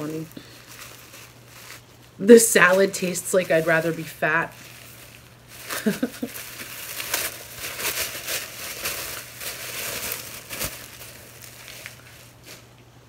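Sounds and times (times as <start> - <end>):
tissue paper rustling and crinkling: 0.0 - 12.8.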